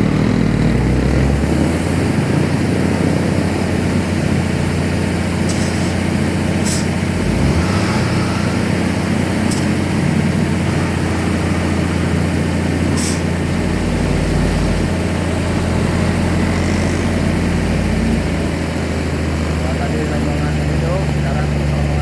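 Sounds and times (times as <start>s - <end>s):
truck engine humming: 0.0s - 22.0s.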